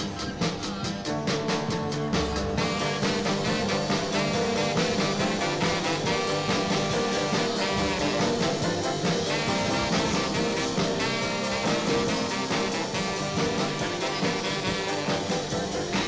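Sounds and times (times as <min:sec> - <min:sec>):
upbeat swing music with brass: 0:00.0 - 0:16.0.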